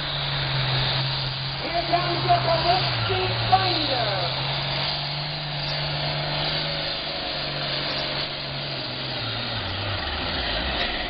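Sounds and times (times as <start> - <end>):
tractor diesel engine droning: 0.0 - 11.0.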